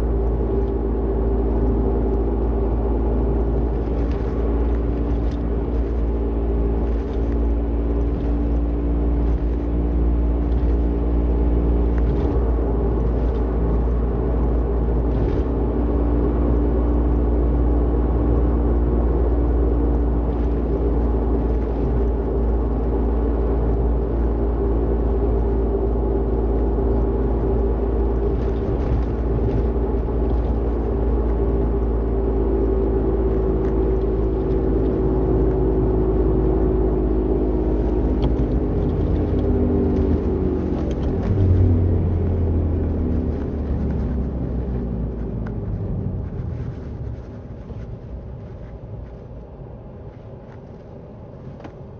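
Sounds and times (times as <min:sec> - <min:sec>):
car rumble with droning hum: 0:00.0 - 0:51.9.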